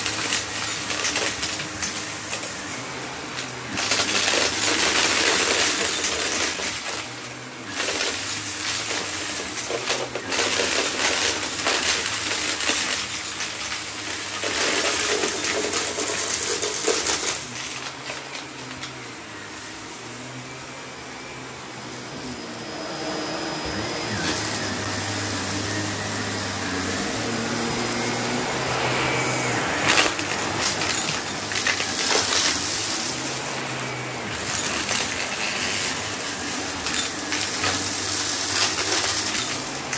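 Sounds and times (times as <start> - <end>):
debris crunching and rattling: 0.0 - 19.2, 24.1 - 39.9
vacuum cleaner motor hum: 0.0 - 39.9.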